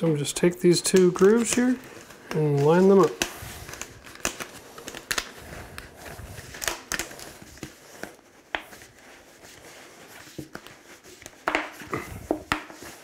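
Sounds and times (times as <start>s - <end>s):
plastic duct clicking and crinkling: 0.0s - 9.0s, 10.2s - 13.0s.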